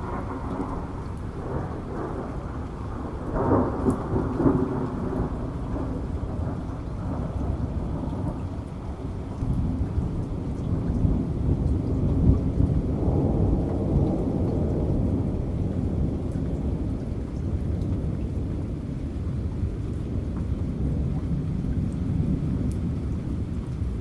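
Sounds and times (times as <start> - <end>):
heavy rain: 0.0 - 24.0
thunder rumbling: 0.0 - 24.0.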